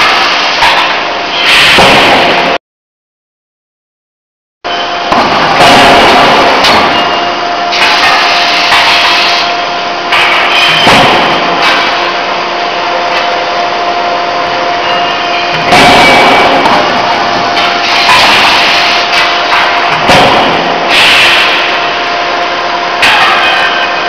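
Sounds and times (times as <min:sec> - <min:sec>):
machine hum: 0:04.7 - 0:24.0.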